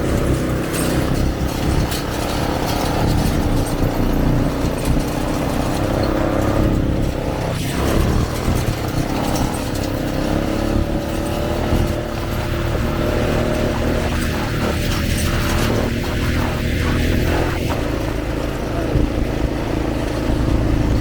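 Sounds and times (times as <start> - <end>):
atv engine running: 0.0 - 21.0
wind buffeting microphone: 0.0 - 21.0.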